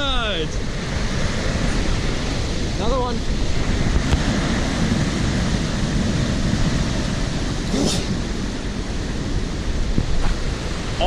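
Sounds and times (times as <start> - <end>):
waves rushing water: 0.0 - 11.0
wind buffeting microphone: 0.0 - 11.0.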